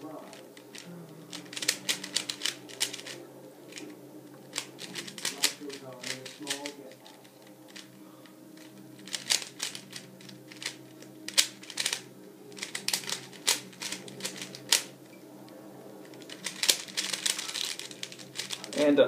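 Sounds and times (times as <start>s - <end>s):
speed cube clacking: 0.3s - 3.9s, 4.5s - 14.9s, 16.0s - 18.9s.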